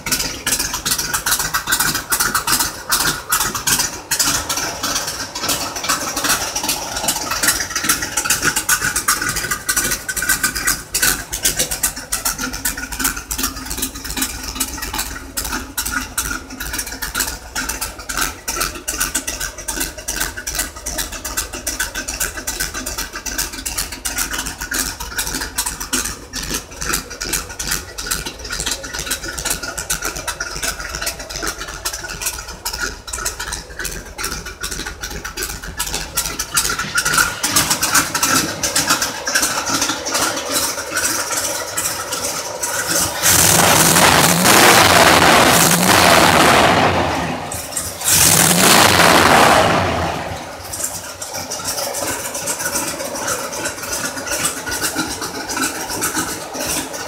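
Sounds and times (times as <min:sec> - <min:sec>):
car engine running: 0:00.0 - 0:57.0
engine revving: 0:00.0 - 0:57.0.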